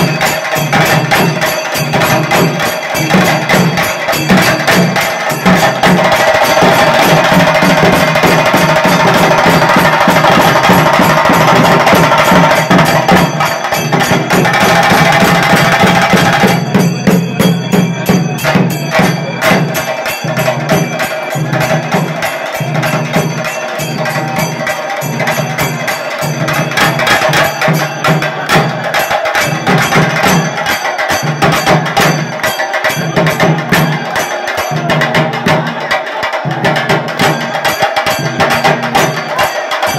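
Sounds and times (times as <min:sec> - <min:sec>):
live drumming: 0:00.0 - 0:39.9.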